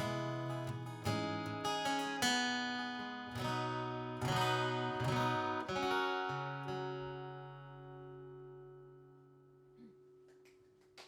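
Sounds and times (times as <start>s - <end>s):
acoustic guitar strumming: 0.0s - 9.7s.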